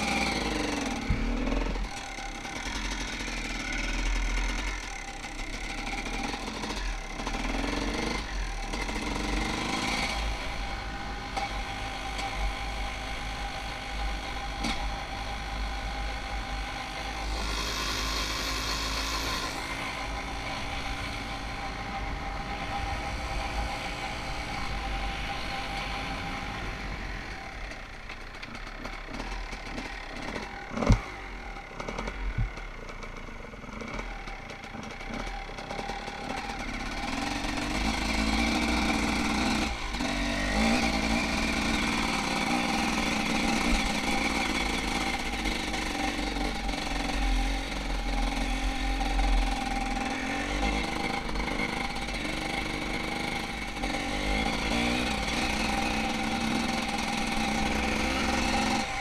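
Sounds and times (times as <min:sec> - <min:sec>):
dirt bike engine revving: 0:00.0 - 0:28.0, 0:28.6 - 0:59.0.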